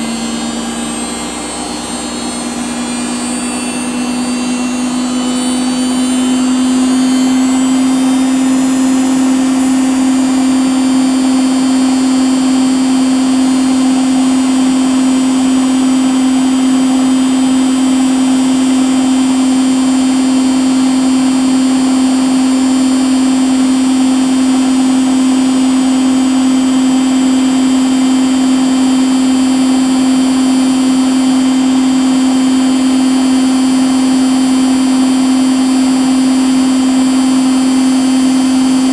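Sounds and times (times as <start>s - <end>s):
appliance motor humming: 0.0s - 38.9s
faint high whine: 0.0s - 38.9s.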